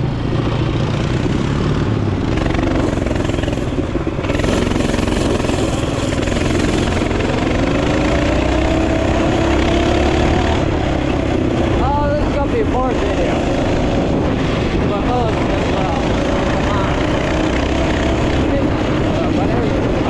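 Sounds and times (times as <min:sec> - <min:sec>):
mini bike engine running: 0:00.0 - 0:20.0.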